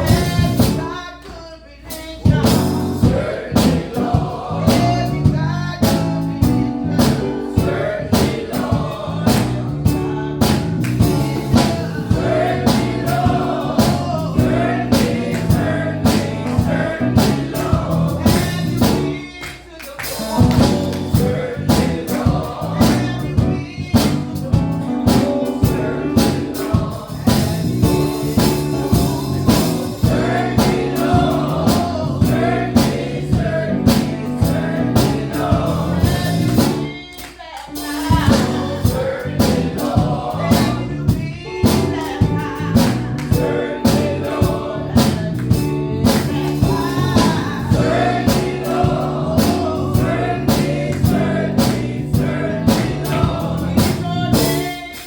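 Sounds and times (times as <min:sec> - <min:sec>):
gospel group singing with instruments: 0:00.0 - 0:55.0.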